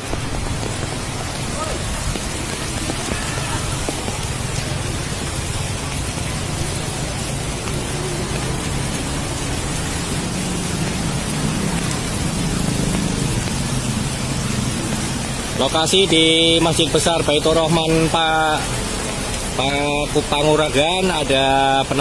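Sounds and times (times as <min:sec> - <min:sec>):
storm wind: 0:00.0 - 0:18.1
heavy rain: 0:00.0 - 0:22.0.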